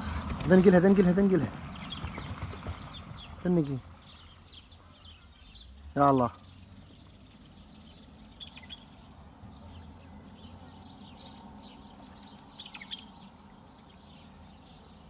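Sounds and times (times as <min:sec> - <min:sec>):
low outdoor background noise: 0:00.0 - 0:15.0
faint bird chirps: 0:01.8 - 0:15.0.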